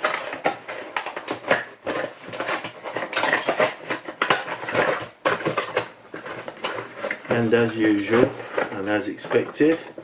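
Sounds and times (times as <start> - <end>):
plastic parts clicking and knocking: 0.0 - 10.0.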